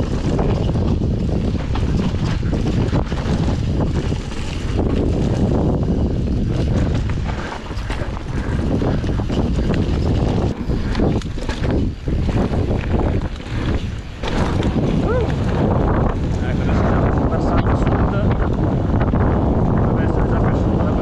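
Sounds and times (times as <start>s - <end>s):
tyre rumble over dirt and leaves: 0.0s - 17.3s
bike knocks and rattles: 0.0s - 21.0s
wind buffeting microphone: 0.0s - 21.0s.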